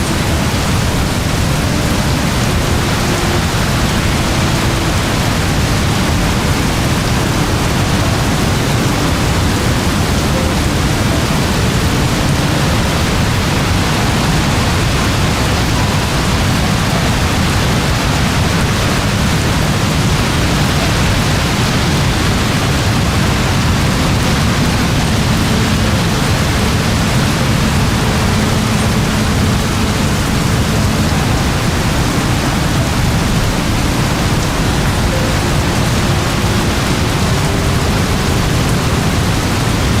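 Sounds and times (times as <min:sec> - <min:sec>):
very heavy rain: 0:00.0 - 0:40.0.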